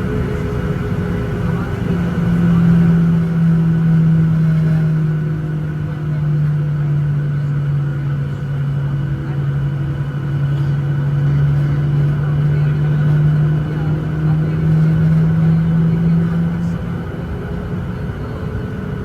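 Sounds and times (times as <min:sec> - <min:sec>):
jet engine drone in cabin: 0:00.0 - 0:19.0.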